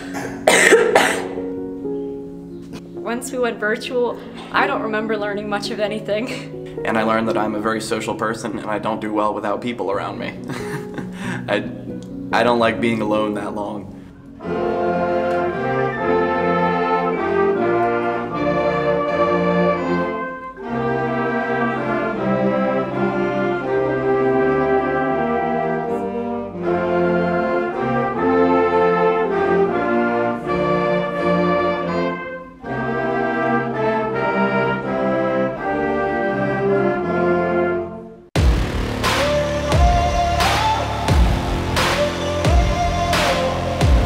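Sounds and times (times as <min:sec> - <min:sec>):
brass instrumental music: 0:00.0 - 0:44.0.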